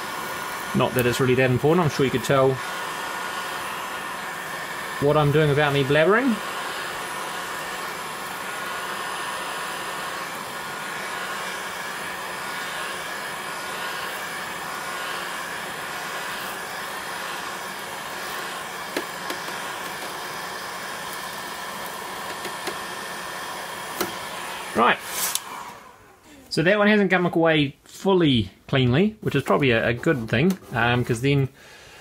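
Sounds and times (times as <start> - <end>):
heat gun blowing air: 0.0 - 26.6.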